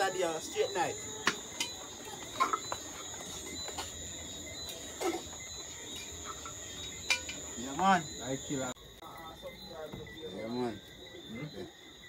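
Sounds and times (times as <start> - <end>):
crickets trilling: 0.0 - 12.0
faint voices: 0.0 - 12.0.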